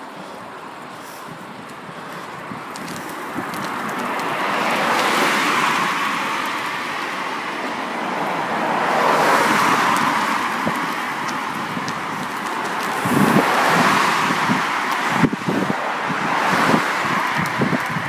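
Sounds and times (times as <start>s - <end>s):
tyres and wind rushing: 0.0s - 18.0s.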